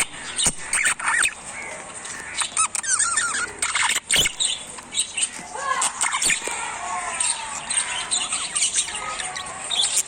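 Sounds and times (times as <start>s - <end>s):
parrots chirping: 0.0s - 10.0s.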